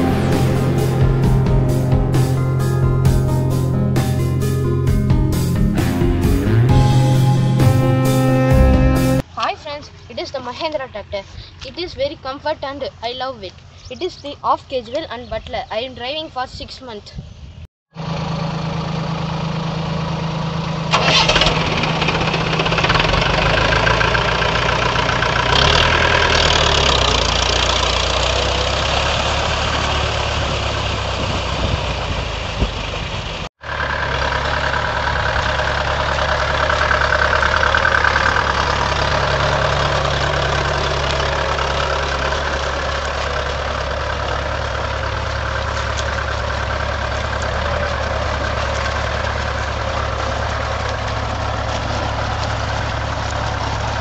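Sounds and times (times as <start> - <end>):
tractor diesel engine running: 0.0 - 16.2, 17.9 - 54.0.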